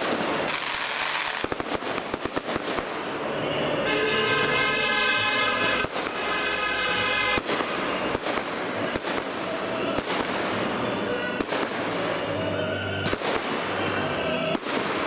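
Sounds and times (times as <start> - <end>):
fireworks bursting bangs: 0.0 - 15.0.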